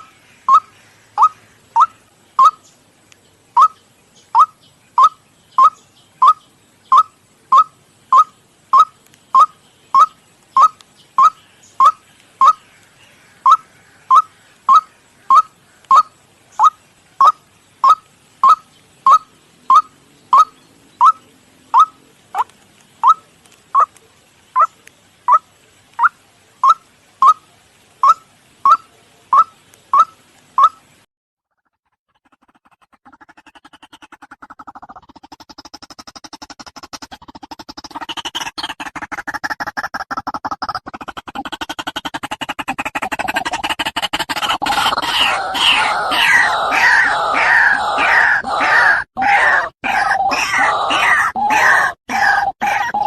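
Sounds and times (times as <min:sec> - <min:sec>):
waterhen kwak call: 0:00.0 - 0:02.6, 0:03.5 - 0:30.9, 0:32.1 - 0:53.0.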